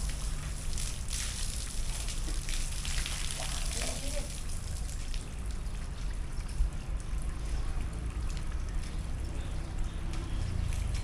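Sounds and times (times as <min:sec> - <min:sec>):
faint drips: 0:00.0 - 0:11.0
hose water splashing on concrete: 0:00.0 - 0:11.0
light rain: 0:00.0 - 0:11.0.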